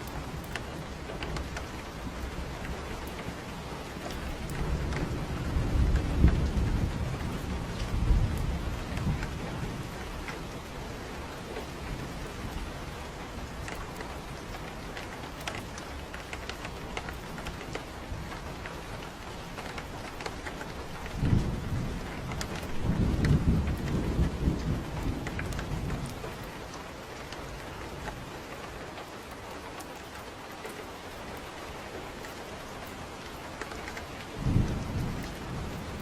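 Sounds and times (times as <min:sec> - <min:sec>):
thunder rumbling: 0:00.0 - 0:29.0, 0:32.0 - 0:36.0
drops ticking on surfaces: 0:00.0 - 0:36.0
steady rain falling: 0:00.0 - 0:36.0.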